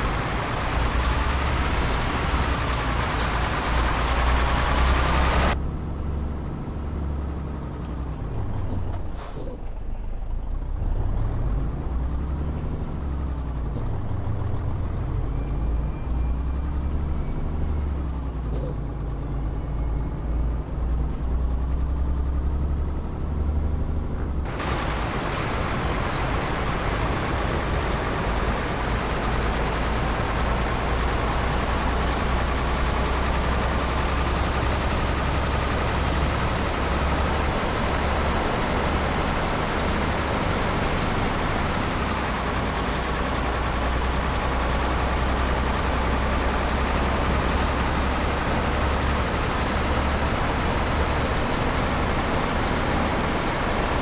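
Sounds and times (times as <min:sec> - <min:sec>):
truck engine drone with whine: 0:00.0 - 0:54.0.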